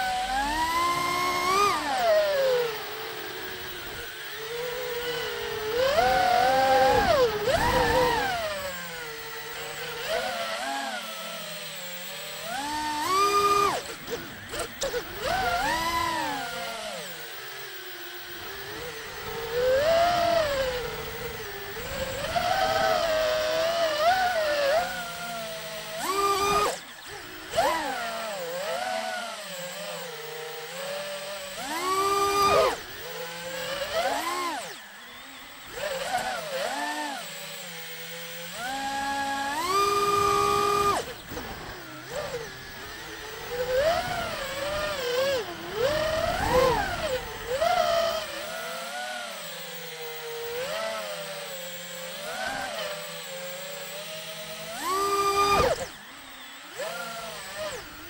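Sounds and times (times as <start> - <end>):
drone propellers whining: 0.0 - 58.0.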